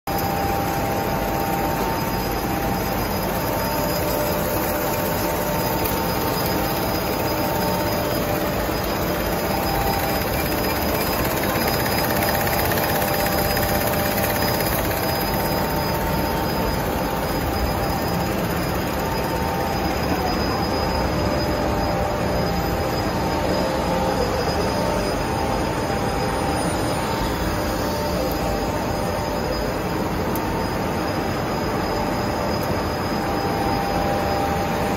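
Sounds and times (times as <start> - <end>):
faint whining tones: 0.1 - 34.9
printing machine whirring: 0.1 - 34.9.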